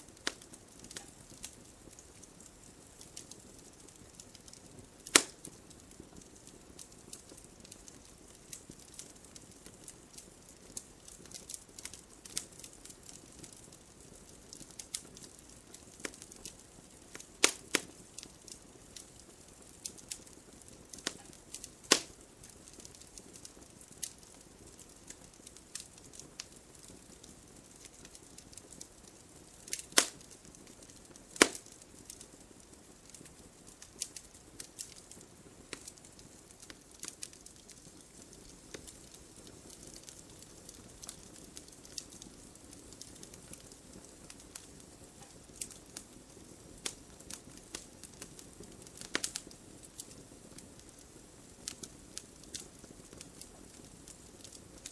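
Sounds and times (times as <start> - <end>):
logs crackling in fireplace: 0.0 - 54.9.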